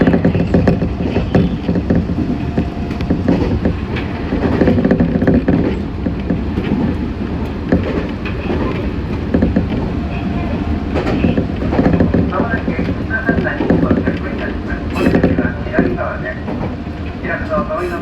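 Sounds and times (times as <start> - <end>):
train wheels clicking over rails: 0.0 - 18.0.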